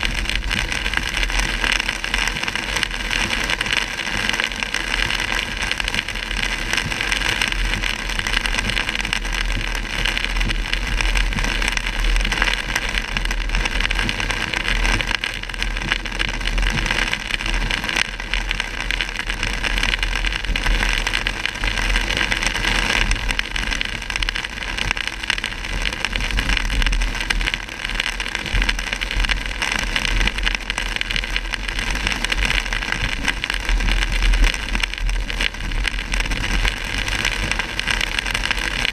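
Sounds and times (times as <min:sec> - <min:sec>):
rain and water spray hiss: 0:00.0 - 0:38.9.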